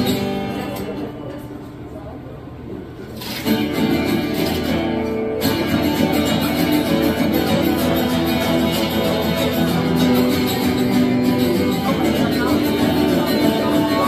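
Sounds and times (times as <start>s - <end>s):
acoustic guitar strumming: 0.0s - 1.2s, 3.2s - 14.0s.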